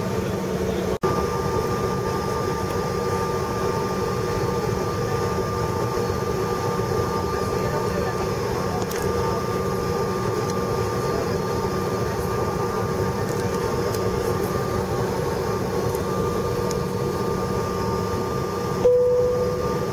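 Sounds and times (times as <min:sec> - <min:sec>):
engine whine: 0:00.0 - 0:19.9
jet engines idling hum: 0:00.0 - 0:19.9.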